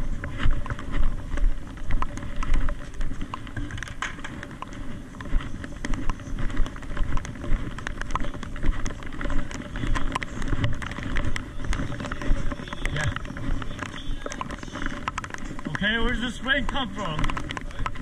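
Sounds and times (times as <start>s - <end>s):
raindrops tapping: 0.0s - 18.0s.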